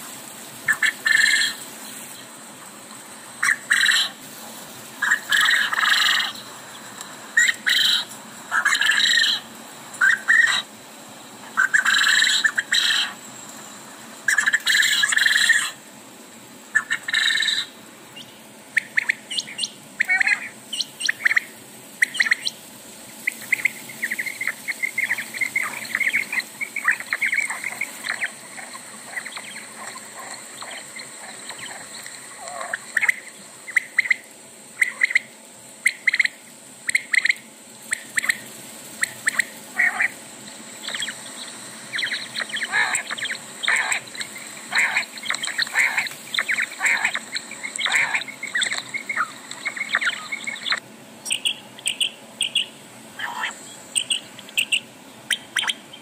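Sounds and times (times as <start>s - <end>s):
steady high hiss: 0.0s - 56.0s
birds chirping and squawking: 0.7s - 1.6s, 3.4s - 4.2s, 5.0s - 6.4s, 7.4s - 10.7s, 11.5s - 13.2s, 14.2s - 15.8s, 16.8s - 22.6s, 23.2s - 35.3s, 37.9s - 40.2s, 40.8s - 56.0s.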